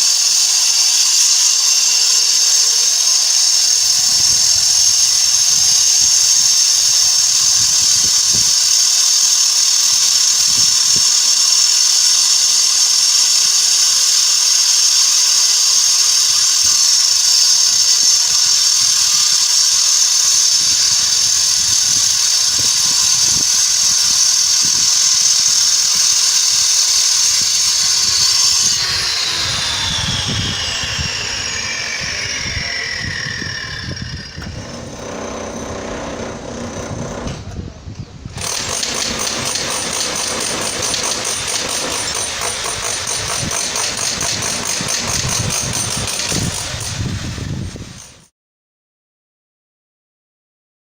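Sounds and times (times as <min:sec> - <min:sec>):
angle grinder whining: 0:00.0 - 0:37.5, 0:38.3 - 0:48.3.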